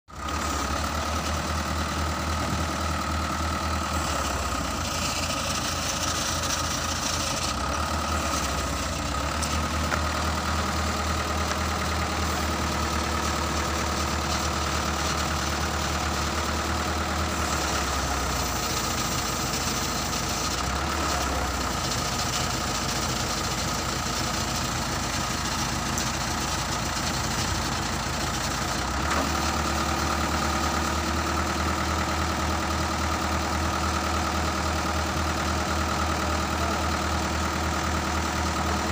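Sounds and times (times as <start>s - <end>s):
diesel winch engine running: 0.1s - 38.9s.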